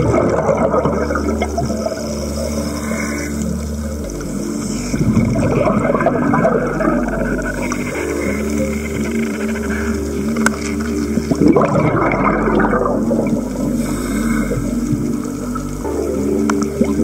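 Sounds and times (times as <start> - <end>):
diver's exhaled breath bubbling: 0.0 - 17.0
underwater layered hum: 0.0 - 17.0.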